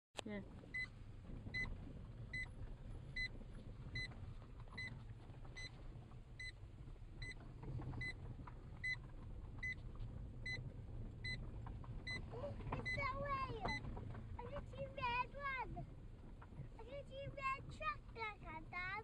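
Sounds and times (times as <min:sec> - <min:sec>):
car interior road rumble: 0:00.2 - 0:19.0.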